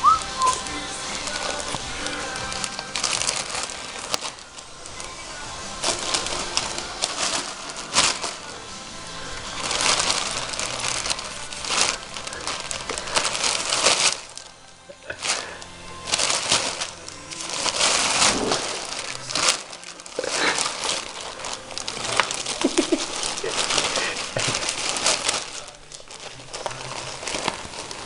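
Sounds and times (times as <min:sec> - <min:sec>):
bag crinkling and rustling: 0:00.0 - 0:28.0.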